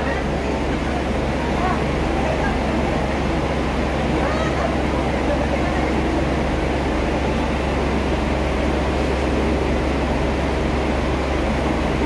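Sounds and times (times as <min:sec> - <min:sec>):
air-conditioning running: 0:00.0 - 0:12.0
constant low hum: 0:00.0 - 0:12.0
diesel railcar engine idling: 0:00.0 - 0:12.0.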